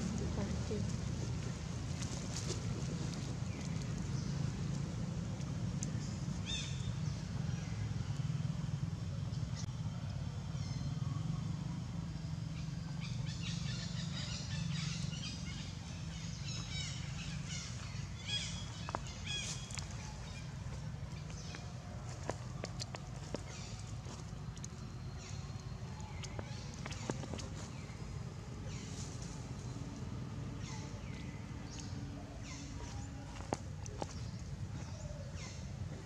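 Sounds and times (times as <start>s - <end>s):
small birds chirping: 0.0s - 8.4s, 12.2s - 36.0s
low outdoor rumble: 0.0s - 36.0s.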